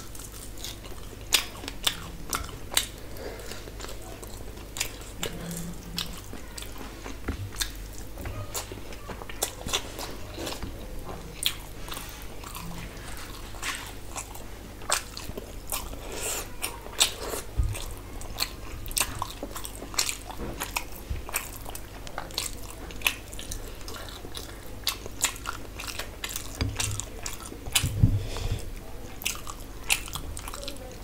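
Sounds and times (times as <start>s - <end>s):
low steady hum: 0.0s - 31.0s
person chewing food: 0.0s - 31.0s.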